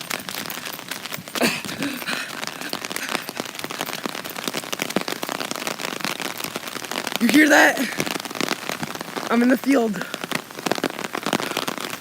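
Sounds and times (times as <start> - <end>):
rain drops pattering: 0.0 - 12.0.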